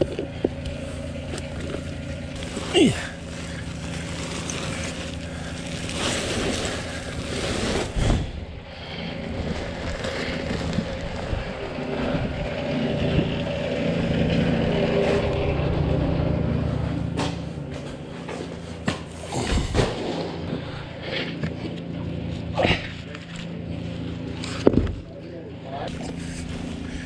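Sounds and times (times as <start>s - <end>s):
motor droning: 0.0s - 27.0s.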